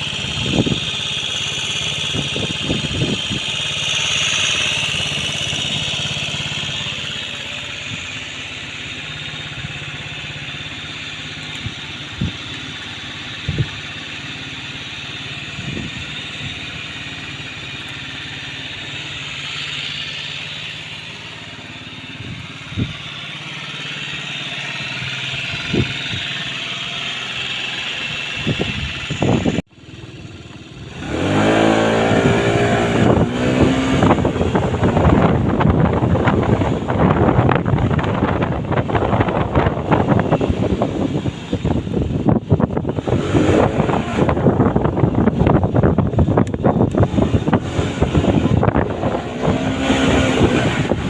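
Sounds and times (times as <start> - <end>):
scooter engine idling: 0.0 - 51.0.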